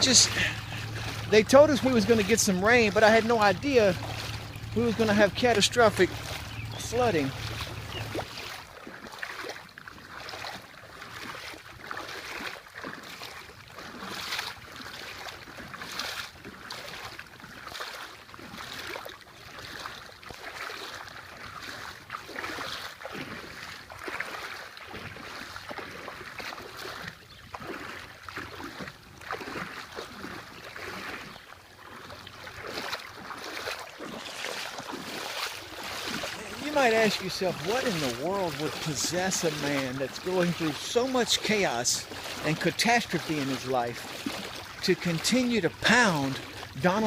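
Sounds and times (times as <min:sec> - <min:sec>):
floodwater sloshing and splashing: 0:00.0 - 0:47.0.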